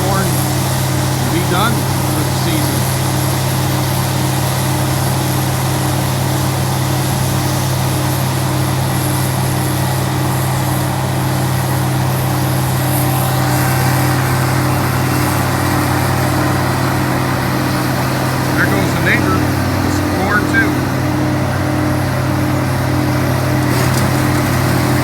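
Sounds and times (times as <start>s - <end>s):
harvest machinery engine humming: 0.0s - 25.0s.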